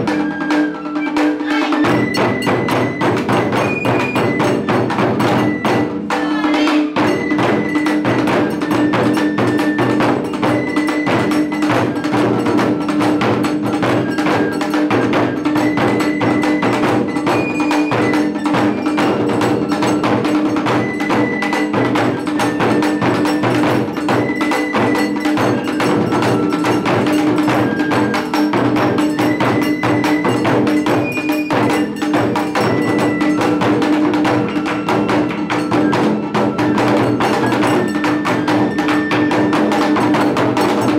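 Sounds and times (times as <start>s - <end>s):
high held melody: 0.0s - 40.9s.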